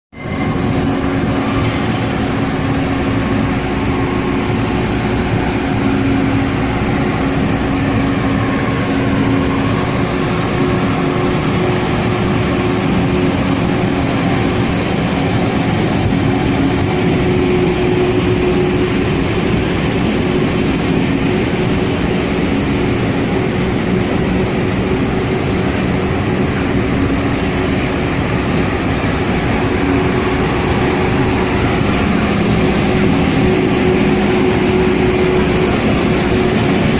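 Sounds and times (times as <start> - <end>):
train running: 0.1 - 36.9
low steady hum: 0.3 - 36.9.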